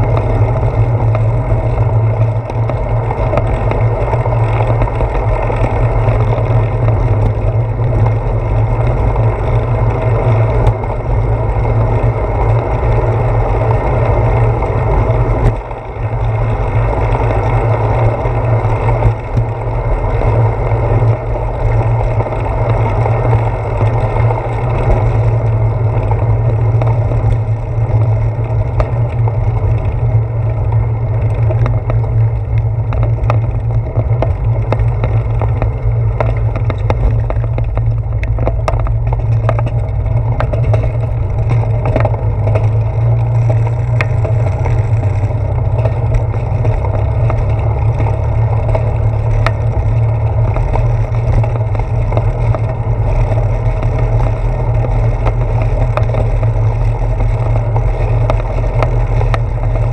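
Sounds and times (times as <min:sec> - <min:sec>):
bicycle road rumble: 0:00.0 - 0:59.9
wind rush on microphone: 0:00.0 - 0:59.9.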